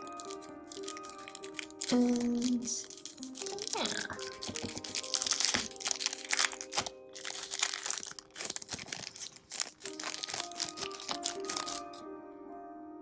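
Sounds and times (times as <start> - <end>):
plastic packaging crinkling: 0.0 - 12.0
soft background music: 0.0 - 13.0.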